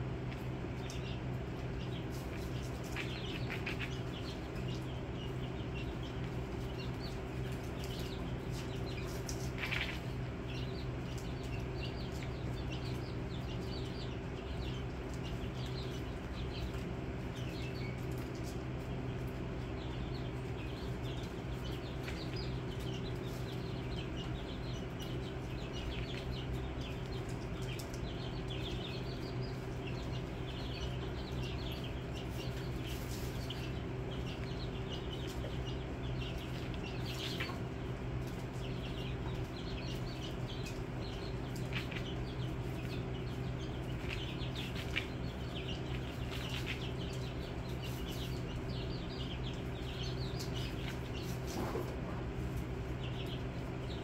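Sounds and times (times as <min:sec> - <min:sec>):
chicks peeping: 0:00.0 - 0:54.0
steady low hum: 0:00.0 - 0:54.0.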